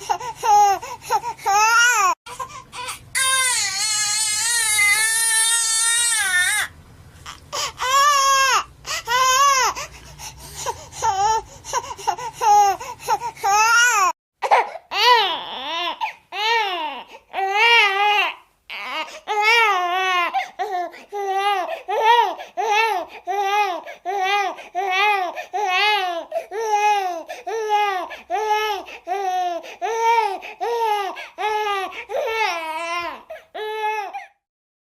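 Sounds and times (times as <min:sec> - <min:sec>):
high-pitched baby-like crying: 0:00.0 - 0:09.9, 0:10.6 - 0:34.4.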